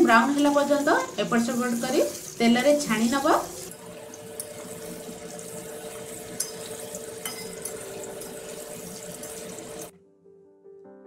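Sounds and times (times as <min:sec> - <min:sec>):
vegetables sizzling in hot oil: 0:00.0 - 0:09.9.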